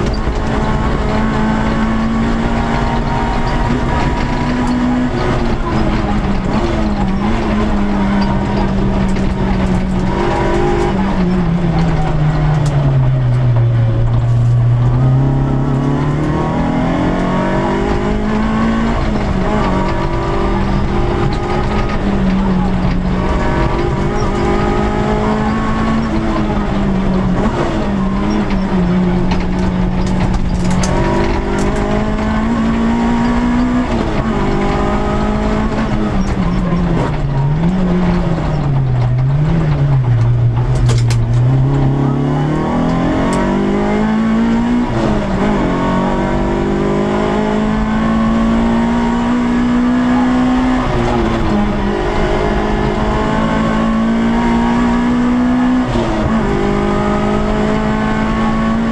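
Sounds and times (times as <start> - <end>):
car engine revving through gears: 0.0 - 58.9
engine blips on downshifts: 0.0 - 58.9.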